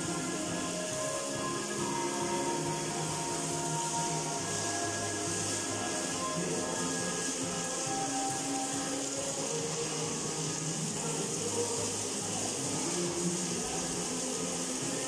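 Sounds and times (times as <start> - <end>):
faint music: 0.0 - 15.0
fountain water splashing: 0.0 - 15.0.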